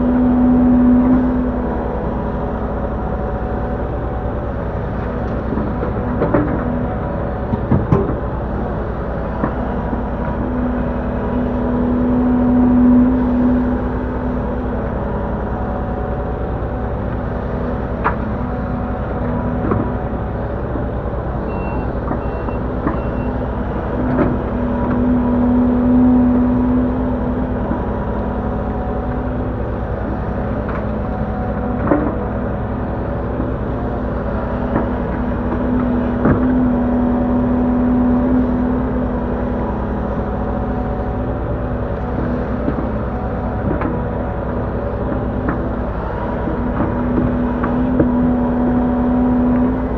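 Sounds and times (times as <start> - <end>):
hydraulic excavator running: 0.0 - 49.9.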